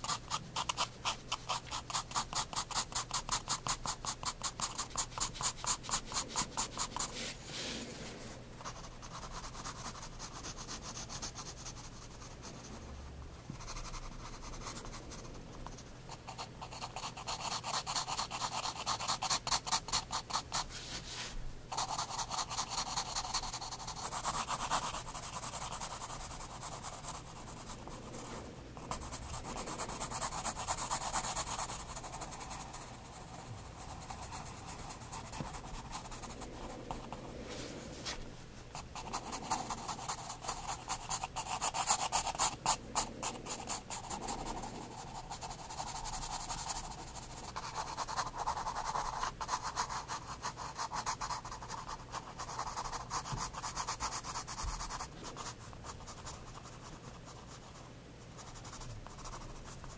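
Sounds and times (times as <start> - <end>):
pencil scratching on paper: 0.0 - 7.8, 13.5 - 38.2, 38.8 - 57.8, 58.4 - 59.9.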